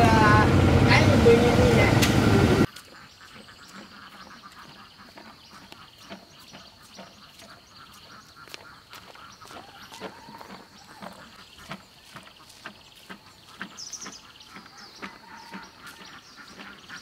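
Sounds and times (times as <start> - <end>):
frogs croaking: 2.6 - 17.0.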